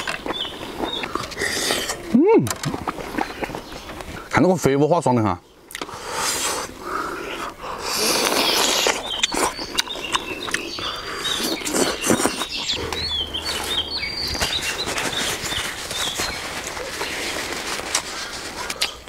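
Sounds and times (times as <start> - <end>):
small birds chirping: 0.0 - 2.0, 2.9 - 19.0
chewing and lip-smacking: 0.0 - 4.2, 7.4 - 19.0.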